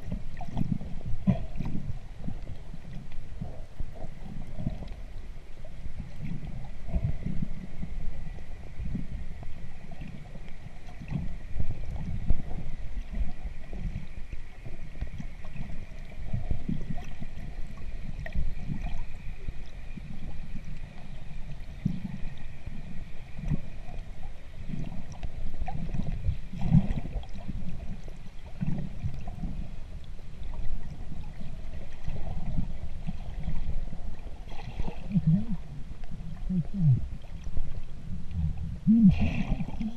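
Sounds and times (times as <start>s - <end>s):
underwater rumbling and gurgling: 0.0s - 39.9s.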